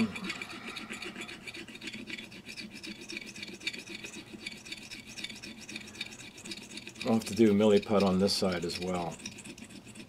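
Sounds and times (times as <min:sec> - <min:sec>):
file rasping on hard putty: 0:00.0 - 0:10.0.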